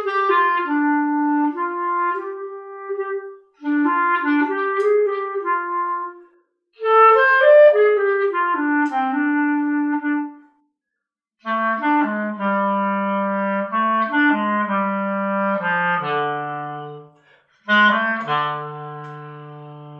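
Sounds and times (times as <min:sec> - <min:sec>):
clarinet playing jazz melody: 0:00.0 - 0:10.6, 0:11.4 - 0:19.9.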